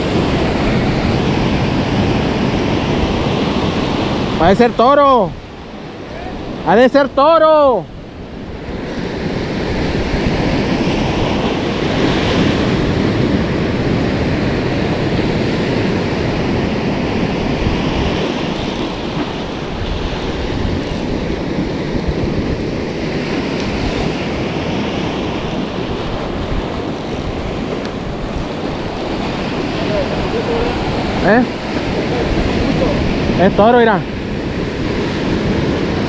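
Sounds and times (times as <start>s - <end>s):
ocean surf washing ashore: 0.0s - 36.0s
wind blowing across microphone: 0.0s - 36.0s.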